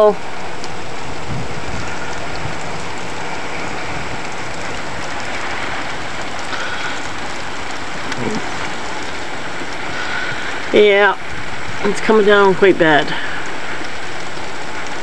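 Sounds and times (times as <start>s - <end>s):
heavy rain on ground: 0.0s - 15.0s.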